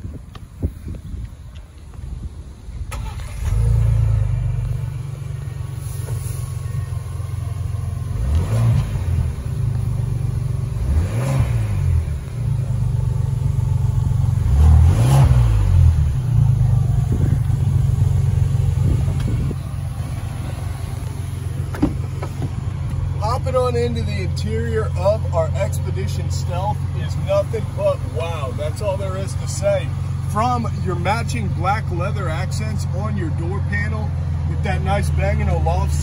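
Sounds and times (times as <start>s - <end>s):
car engine starting and revving: 2.7s - 36.0s.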